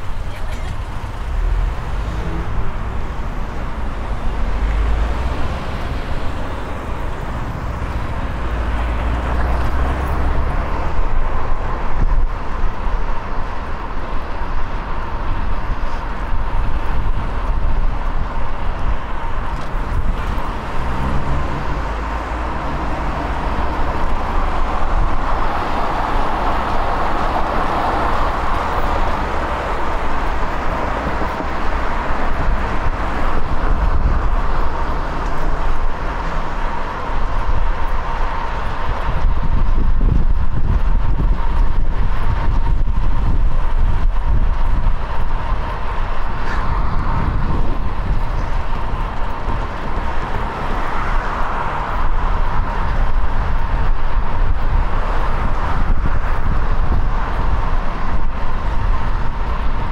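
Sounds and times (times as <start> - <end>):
road traffic: 0.0 - 59.9
wind on microphone: 1.2 - 59.9.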